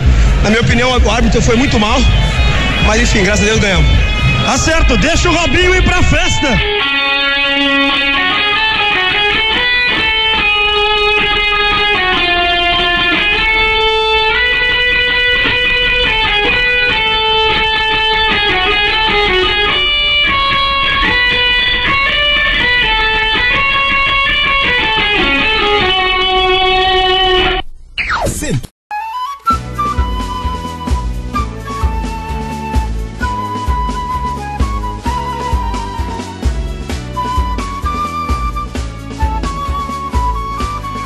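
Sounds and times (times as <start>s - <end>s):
guitar melody: 0.0s - 27.9s, 28.9s - 41.0s.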